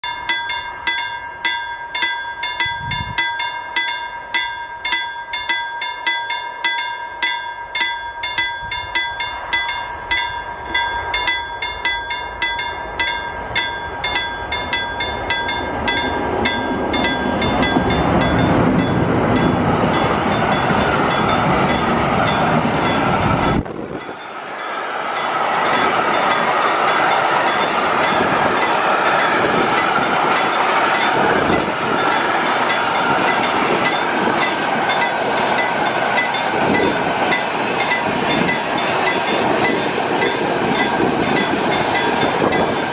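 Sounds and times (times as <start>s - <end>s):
ringing crossing bell ticks: 0.0s - 23.0s, 25.2s - 42.7s
freight train rumble and wheels: 0.0s - 42.9s.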